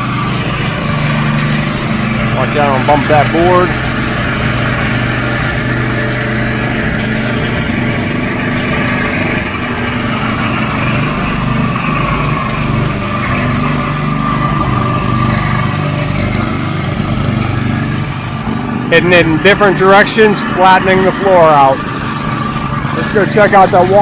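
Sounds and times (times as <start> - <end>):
power trowel engine drone: 0.0 - 24.0.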